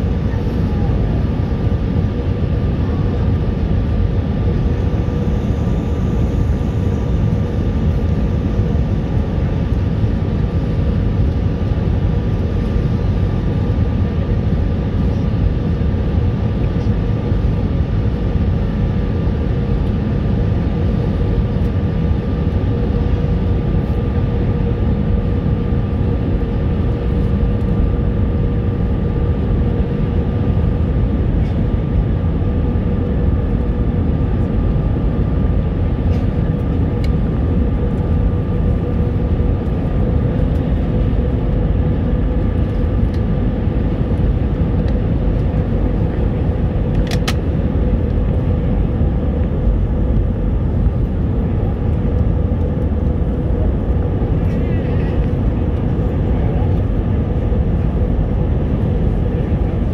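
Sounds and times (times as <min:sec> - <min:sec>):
engine and airflow rumble: 0:00.0 - 0:59.9
faint steady hums: 0:00.0 - 0:59.9.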